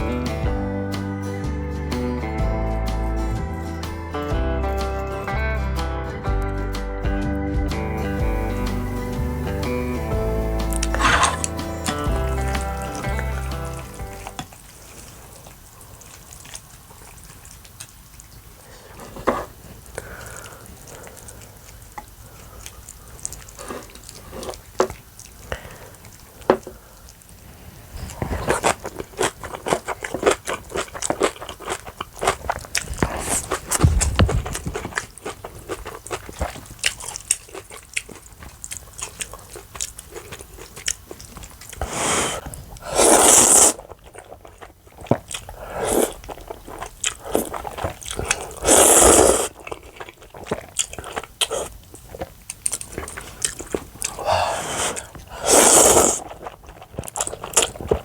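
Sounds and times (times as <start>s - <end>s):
crunchy chewing: 10.4s - 58.0s.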